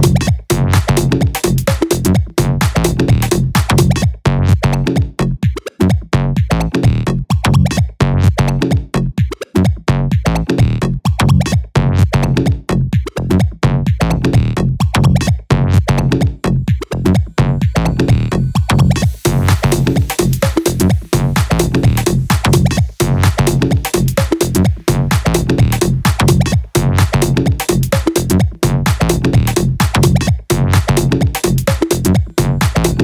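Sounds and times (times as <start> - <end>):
heavy synth bass: 0.0 - 5.4, 6.2 - 9.2, 9.9 - 12.9, 13.6 - 33.0
drum machine beat: 0.0 - 33.0.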